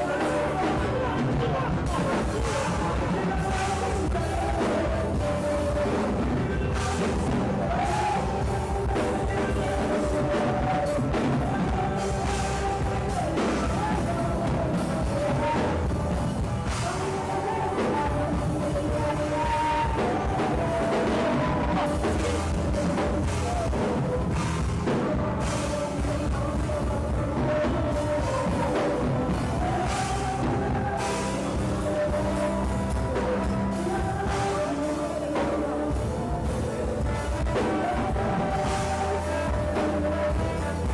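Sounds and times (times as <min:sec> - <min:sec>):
person singing: 0:00.0 - 0:40.9
worship band playing: 0:00.0 - 0:40.9.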